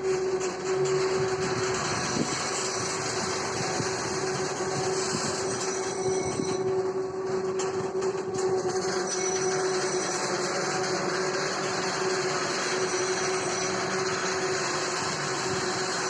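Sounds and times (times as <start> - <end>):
machine humming steadily: 0.0 - 16.0.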